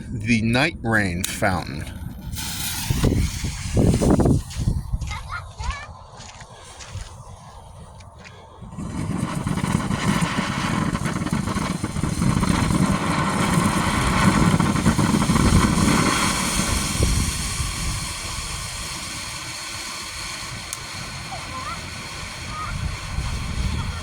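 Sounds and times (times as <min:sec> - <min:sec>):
firework fountain hissing: 0:01.2 - 0:24.0.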